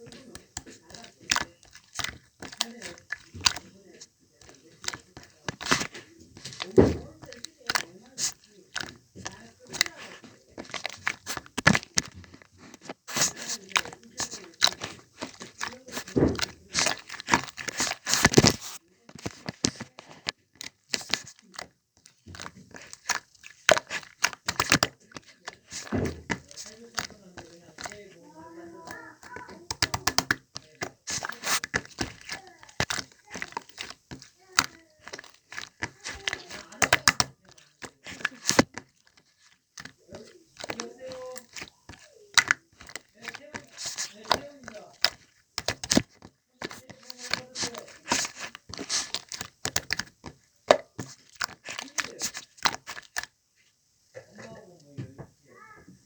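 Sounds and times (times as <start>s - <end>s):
sticky slime pops: 0.0s - 53.4s.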